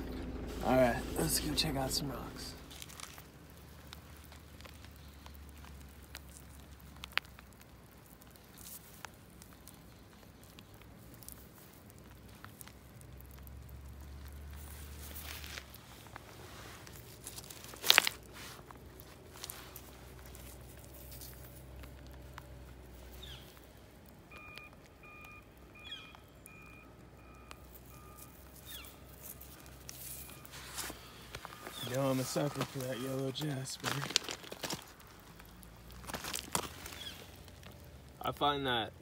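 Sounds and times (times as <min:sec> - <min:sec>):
wet stones crunching and clicking: 0:00.2 - 0:39.0.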